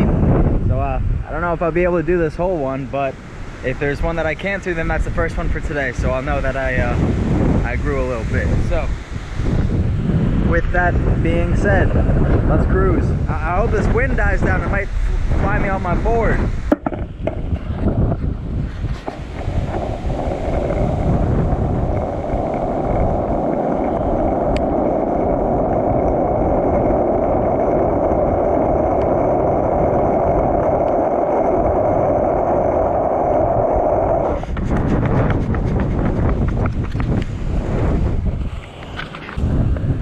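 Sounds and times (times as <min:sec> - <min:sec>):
wind on microphone: 0:00.0 - 0:40.0
skateboard wheels rolling on asphalt: 0:01.3 - 0:40.0.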